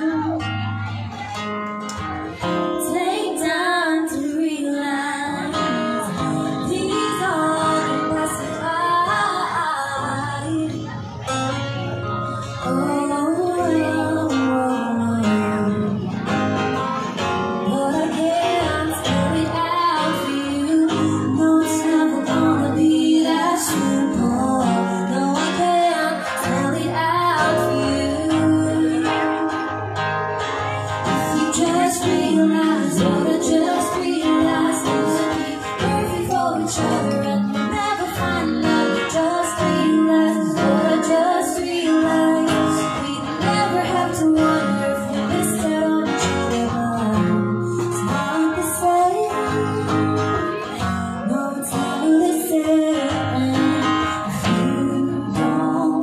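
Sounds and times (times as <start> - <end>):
woman singing: 0.0 - 0.6, 2.3 - 11.2, 12.3 - 16.4, 17.5 - 56.0
acoustic guitar: 0.0 - 56.0.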